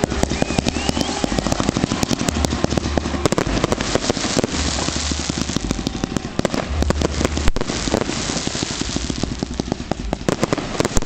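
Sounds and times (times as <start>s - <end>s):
fireworks crackling and popping: 0.0s - 11.0s
steady hiss of ground fountain: 0.0s - 11.0s.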